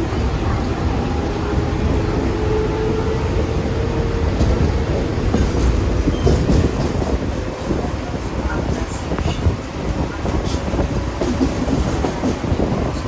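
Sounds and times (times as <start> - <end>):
electric train rumbling on track: 0.0 - 13.0.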